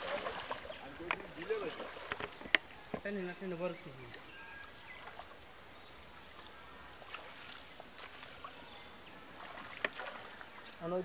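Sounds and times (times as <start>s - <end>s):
shallow water splashing: 0.0s - 2.8s, 4.0s - 10.8s.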